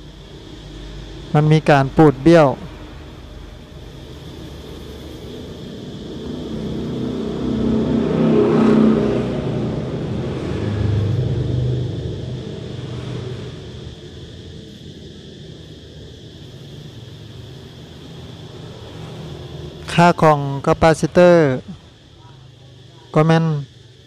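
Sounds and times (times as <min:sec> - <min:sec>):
passing motor vehicle rumble: 0:00.0 - 0:24.0.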